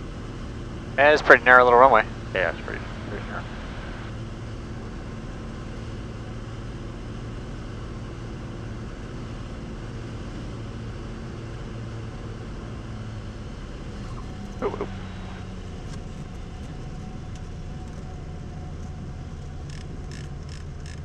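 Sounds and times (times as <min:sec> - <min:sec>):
airplane engine and propeller droning: 0:00.0 - 0:21.0.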